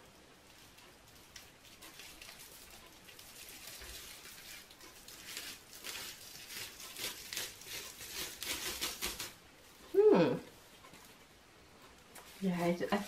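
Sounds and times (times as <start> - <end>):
bubble wrap crinkling: 0.0 - 11.2, 11.9 - 13.0.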